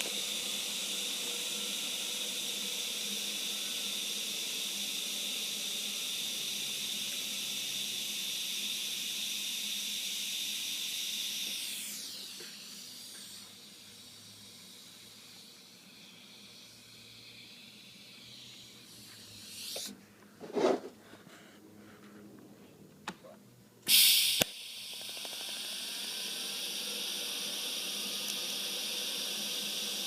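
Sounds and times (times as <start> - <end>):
welding arc hissing: 0.0 - 20.0, 23.9 - 30.0.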